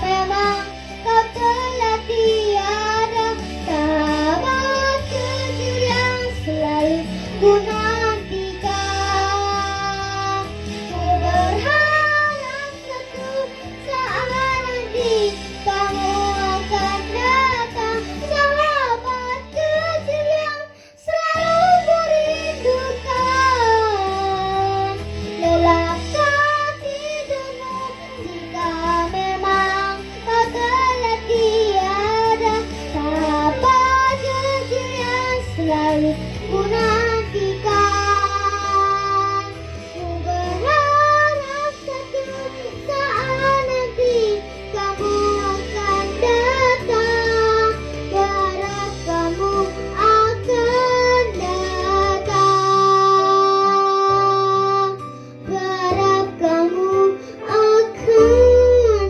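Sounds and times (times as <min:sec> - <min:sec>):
backing track with bass and guitar: 0:00.0 - 0:59.0
person singing pop ballad: 0:00.0 - 0:59.0.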